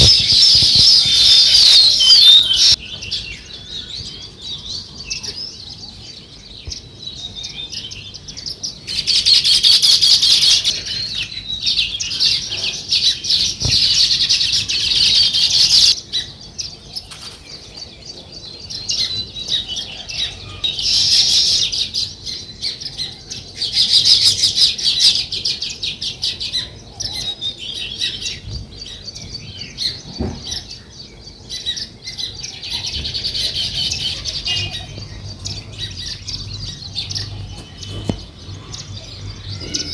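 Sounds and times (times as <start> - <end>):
flock of sparrows chirping: 0.0 - 39.9.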